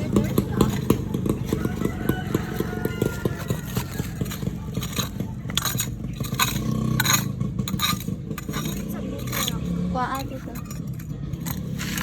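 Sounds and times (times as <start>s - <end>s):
metal shovel digging in stony soil: 0.0s - 12.0s.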